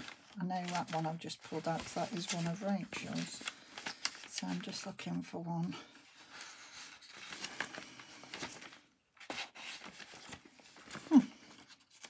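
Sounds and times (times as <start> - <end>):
paper rustling and crackling: 0.0 - 5.2, 5.8 - 12.0.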